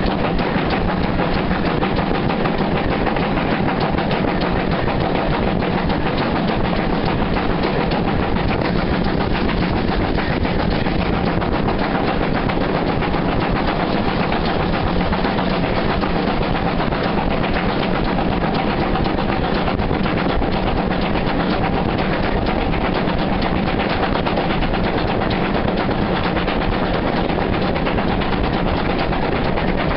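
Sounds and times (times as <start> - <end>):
steam locomotive exhaust beats: 0.0 - 29.9
train running noise: 0.0 - 29.9.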